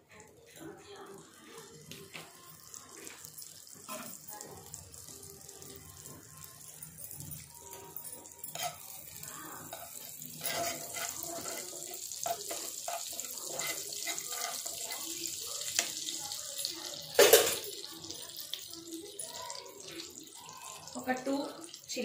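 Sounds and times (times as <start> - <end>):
butter and oil sizzling: 0.0 - 22.0.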